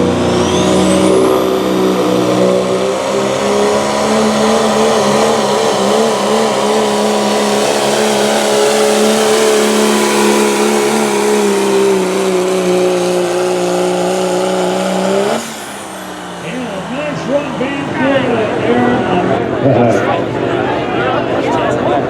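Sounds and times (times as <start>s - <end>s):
diesel truck engine at high revs: 0.0s - 22.0s.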